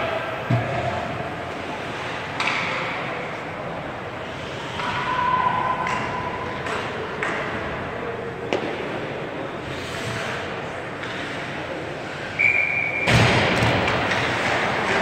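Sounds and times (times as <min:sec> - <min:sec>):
echoing arena noise: 0:00.0 - 0:15.0
hockey sticks and puck clacking: 0:00.5 - 0:07.9, 0:08.5 - 0:09.0, 0:09.6 - 0:15.0.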